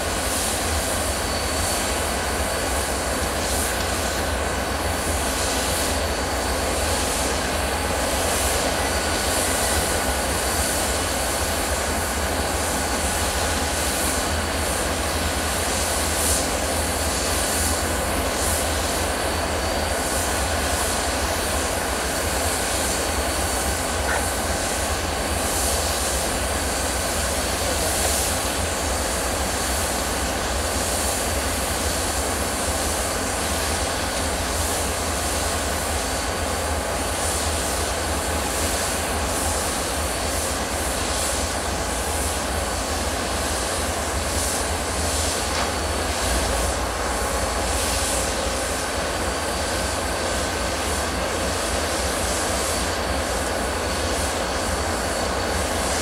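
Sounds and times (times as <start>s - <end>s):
locomotive engines droning: 0.0s - 56.0s.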